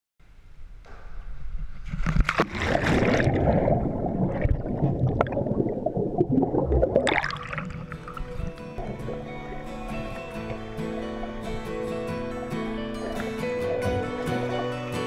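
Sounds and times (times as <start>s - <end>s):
underwater bubbling and gurgling: 1.9s - 15.0s
pool water splashing: 2.0s - 15.0s.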